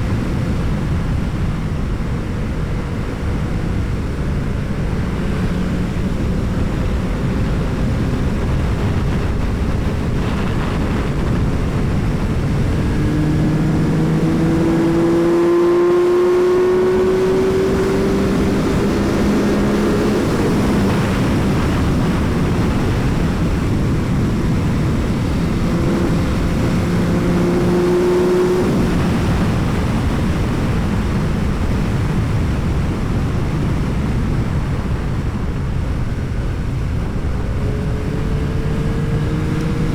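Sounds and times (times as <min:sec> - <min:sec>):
rush of wind noise: 0:00.0 - 0:39.9
motorcycle engine revving: 0:00.5 - 0:39.9.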